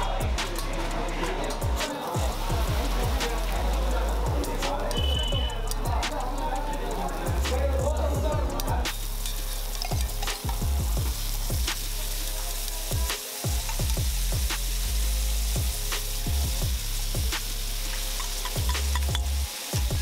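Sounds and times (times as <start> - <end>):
meat and onions sizzling on griddle: 0.1 - 20.0.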